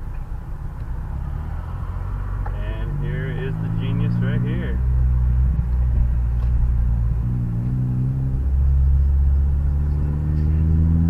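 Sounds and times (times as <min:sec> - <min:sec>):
car engine running: 0:00.0 - 0:11.0
road rumble: 0:00.0 - 0:11.0.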